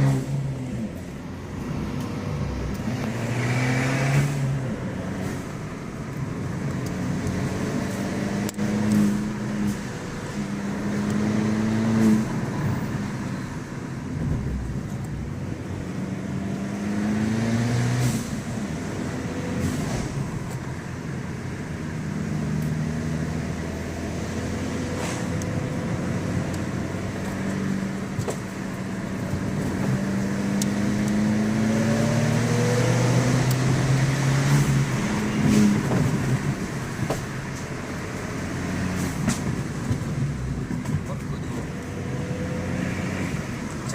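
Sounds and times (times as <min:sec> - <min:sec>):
car engine accelerating through gears: 0:00.0 - 0:43.9.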